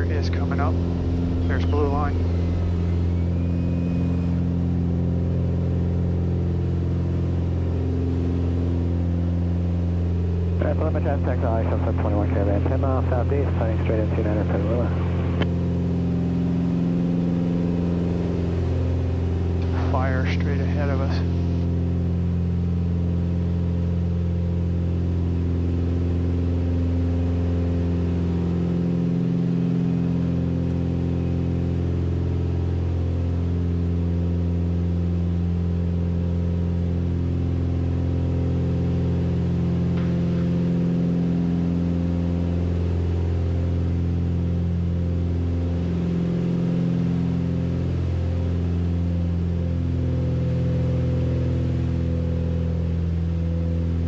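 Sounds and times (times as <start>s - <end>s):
propeller plane engines droning: 0.0s - 54.0s.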